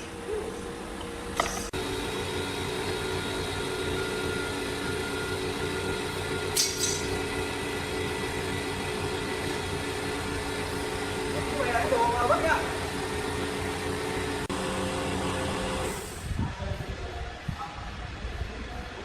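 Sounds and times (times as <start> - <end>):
sawmill machinery humming: 0.0 - 16.2.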